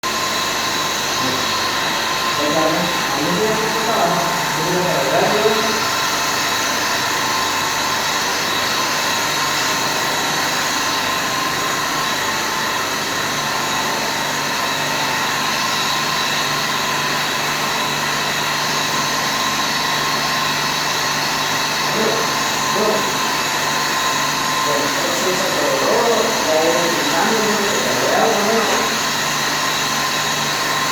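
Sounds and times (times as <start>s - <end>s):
machinery whirring and humming: 0.0s - 30.9s.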